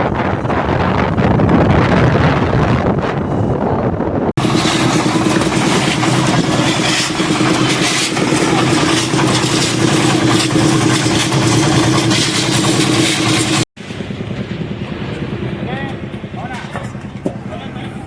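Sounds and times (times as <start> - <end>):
loud rushing noise: 0.0 - 17.5
engine humming: 0.0 - 18.0.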